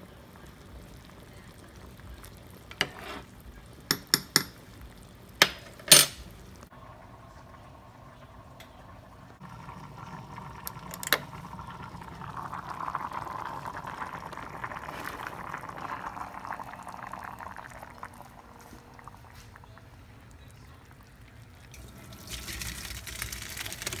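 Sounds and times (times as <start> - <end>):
water boiling in a saucepan: 0.0 - 24.0.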